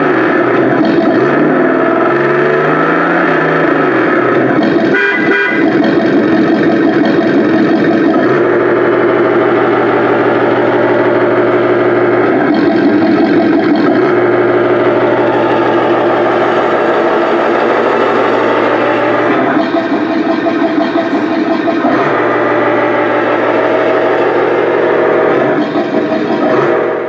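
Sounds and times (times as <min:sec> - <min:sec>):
electronic engine sound: 0:00.0 - 0:27.0.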